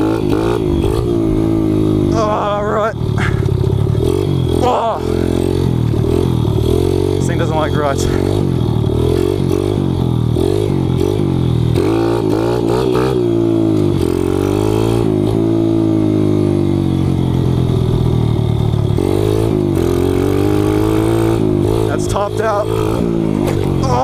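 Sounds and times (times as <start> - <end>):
pit bike engine revving: 0.0 - 24.0.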